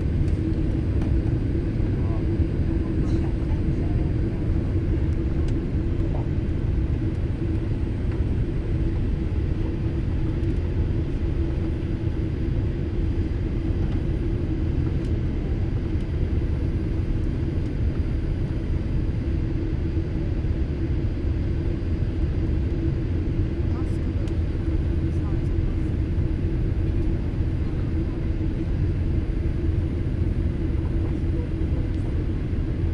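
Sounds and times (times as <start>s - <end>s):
constant hum: 0.0s - 32.9s
low rumble of engines and airflow: 0.0s - 32.9s.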